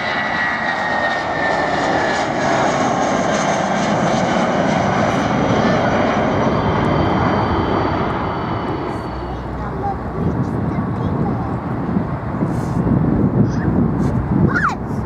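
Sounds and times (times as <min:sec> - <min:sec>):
jet engines high whine: 0:00.0 - 0:15.0.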